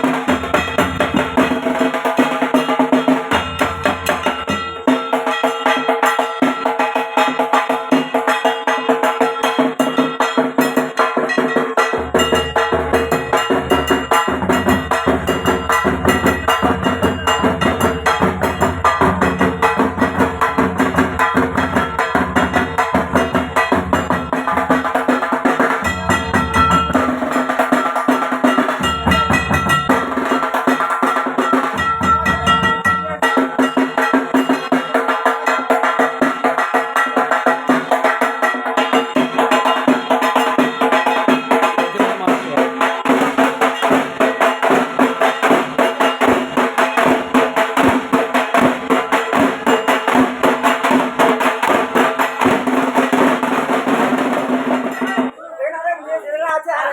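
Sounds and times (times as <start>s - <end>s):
drums beaten rapidly with sticks: 0.0s - 55.4s.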